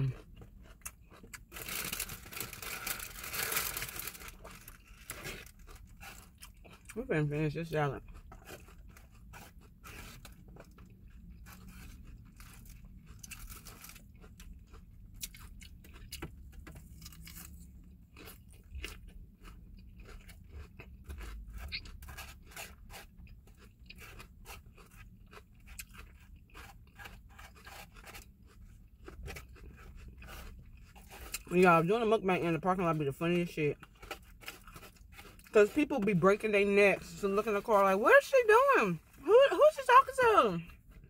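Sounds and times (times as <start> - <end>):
person chewing crisp salad: 0.0 - 7.0, 8.0 - 31.8, 32.6 - 36.4.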